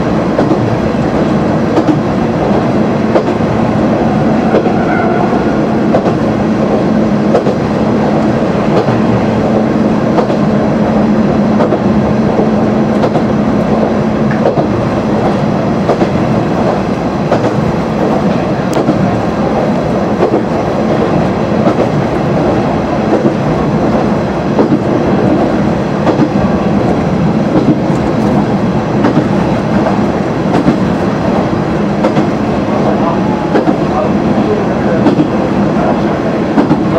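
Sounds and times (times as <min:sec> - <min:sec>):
railcar running noise: 0:00.0 - 0:36.9.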